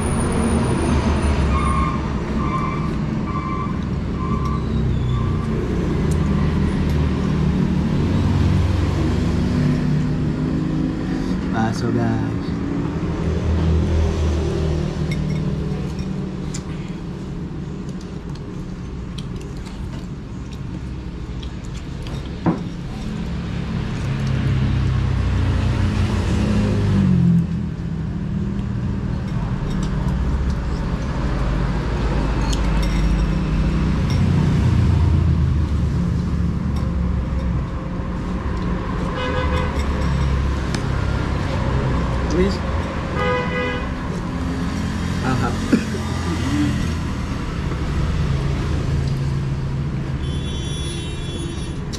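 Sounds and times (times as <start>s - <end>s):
road traffic rumble: 0.0s - 51.9s.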